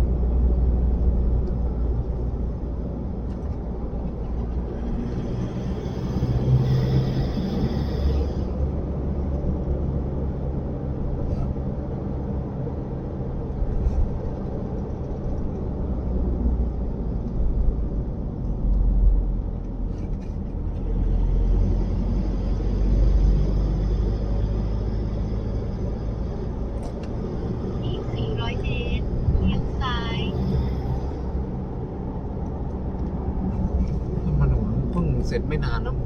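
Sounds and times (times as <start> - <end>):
vehicle engine and road rumble: 0.0 - 36.0.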